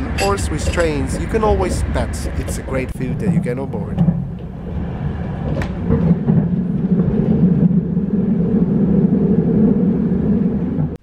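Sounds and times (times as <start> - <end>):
train rumble and hum: 0.0 - 11.0.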